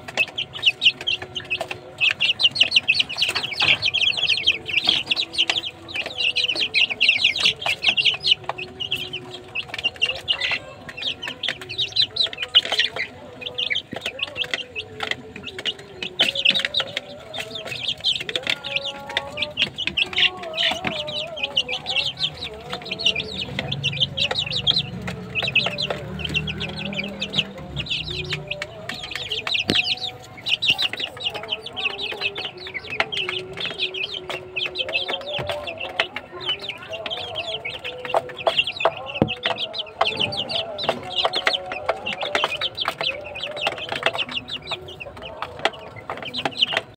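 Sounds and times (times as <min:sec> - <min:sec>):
chicks peeping: 0:00.0 - 0:46.9.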